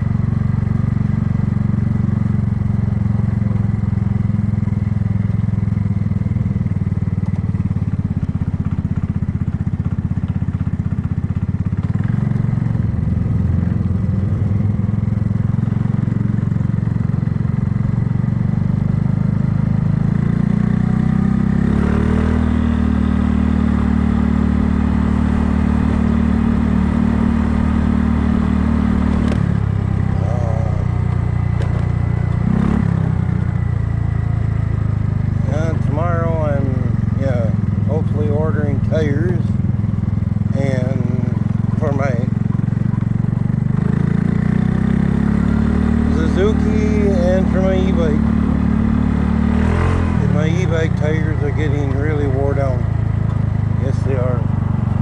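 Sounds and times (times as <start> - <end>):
scooter engine revving: 0.0 - 55.0.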